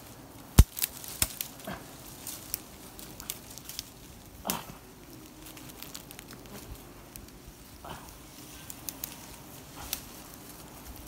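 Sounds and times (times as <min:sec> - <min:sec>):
branches knocking against tree trunk: 0:00.0 - 0:11.0.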